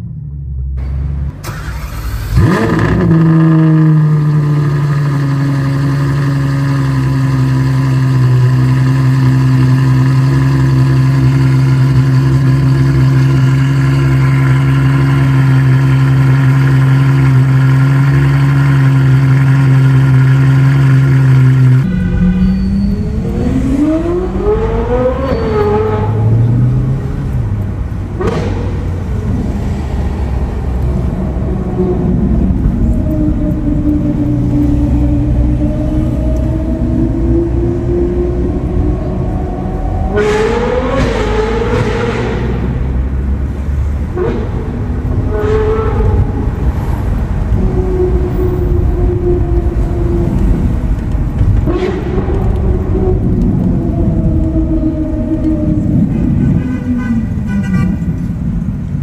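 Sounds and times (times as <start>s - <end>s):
car engine revving: 0.0s - 59.0s
car engine starting and idling: 0.0s - 59.0s.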